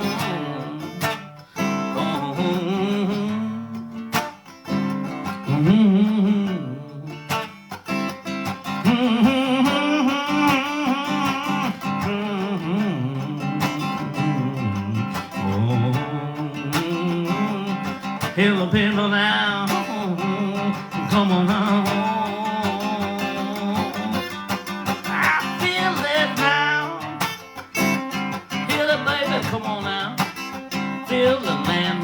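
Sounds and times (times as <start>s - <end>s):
person singing wordlessly: 0.0s - 4.2s, 5.1s - 7.6s, 8.5s - 27.6s, 28.3s - 32.0s
acoustic guitar strumming: 0.0s - 32.0s.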